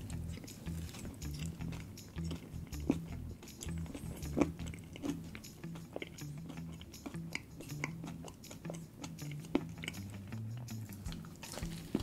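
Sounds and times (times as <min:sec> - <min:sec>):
mouth clicks and smacks: 0:00.0 - 0:12.0
wet chewing: 0:00.0 - 0:12.0.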